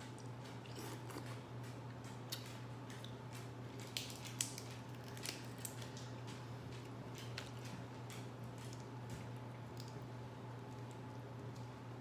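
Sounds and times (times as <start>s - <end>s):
shellfish shells cracking: 2.0s - 11.7s.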